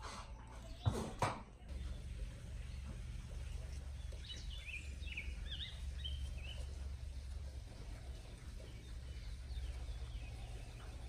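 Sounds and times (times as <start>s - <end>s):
small bird chirping: 1.7s - 11.0s.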